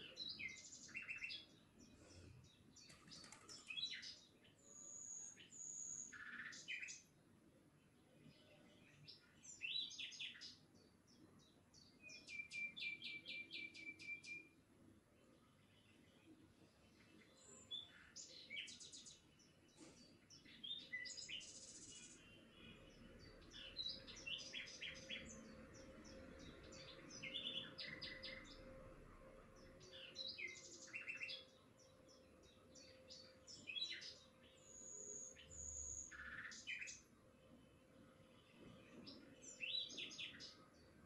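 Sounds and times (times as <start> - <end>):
small birds chirping: 0.0 - 28.8, 29.6 - 41.0.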